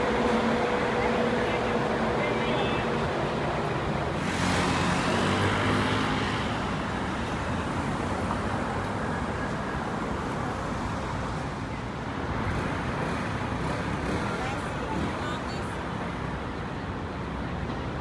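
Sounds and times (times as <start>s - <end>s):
passing vehicles: 0.0s - 18.0s.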